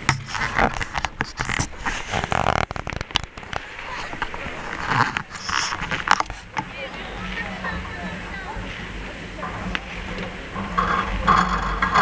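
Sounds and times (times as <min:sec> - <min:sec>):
crowd voices: 0:00.0 - 0:12.0
sharp crackles and clicks: 0:00.0 - 0:12.0.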